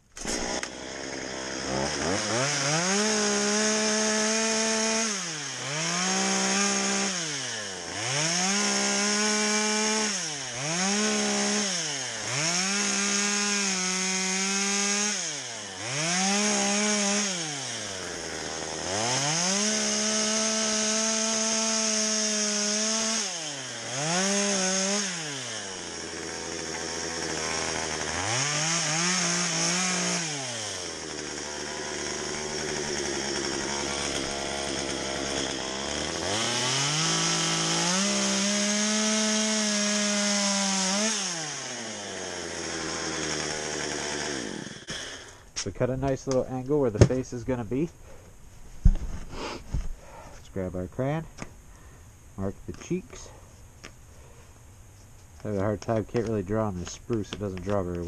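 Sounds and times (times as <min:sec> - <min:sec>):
chainsaw cutting log: 0:00.0 - 0:48.2, 0:48.8 - 0:51.5, 0:55.0 - 0:58.0.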